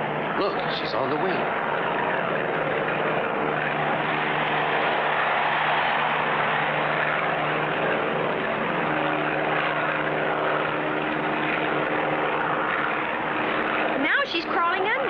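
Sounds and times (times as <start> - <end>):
low steady hum: 0.0 - 15.0
propeller airplane engine droning: 0.0 - 15.0.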